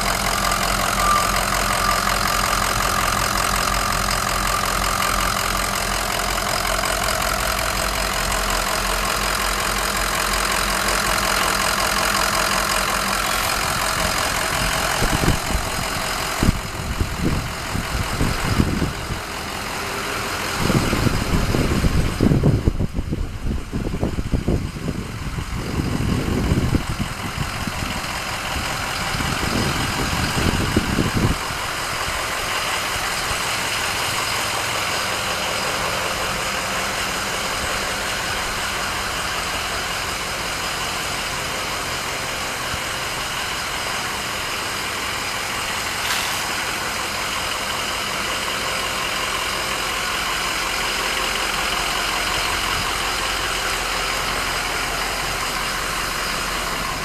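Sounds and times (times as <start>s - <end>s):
diesel engine idling: 0.0s - 57.0s
uneven low rumbling: 0.0s - 57.0s.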